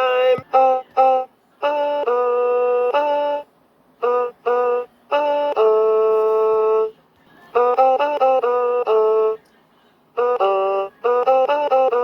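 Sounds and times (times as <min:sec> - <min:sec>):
toy playing electronic melody: 0:00.0 - 0:09.4, 0:10.2 - 0:12.0.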